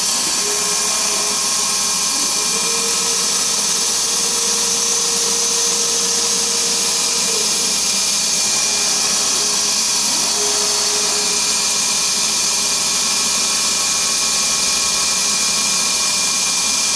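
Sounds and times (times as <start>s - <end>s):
machine hissing: 0.0s - 16.9s.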